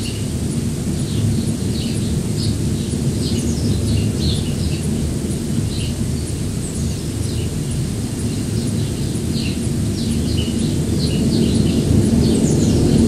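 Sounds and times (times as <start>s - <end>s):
gusty wind on microphone: 0.0s - 13.0s
birds chirping: 1.0s - 13.0s.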